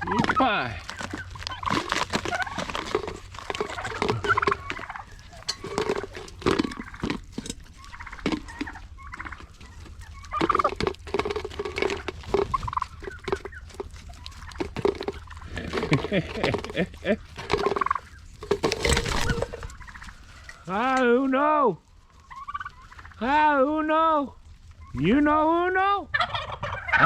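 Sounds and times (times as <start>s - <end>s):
beaks pecking in a bowl: 0.0s - 21.2s, 21.8s - 23.3s
turkeys calling: 0.0s - 27.0s.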